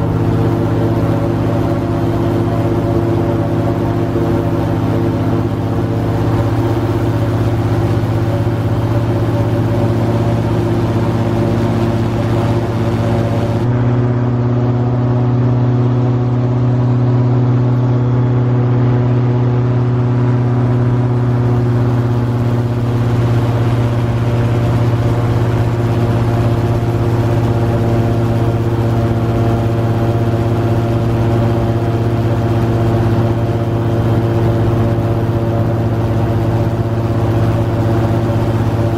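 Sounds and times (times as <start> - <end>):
airboat engine drone: 0.0 - 38.9.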